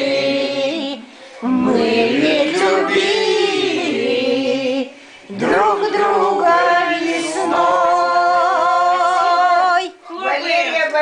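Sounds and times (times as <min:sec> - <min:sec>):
men and women singing together: 0:00.0 - 0:10.0.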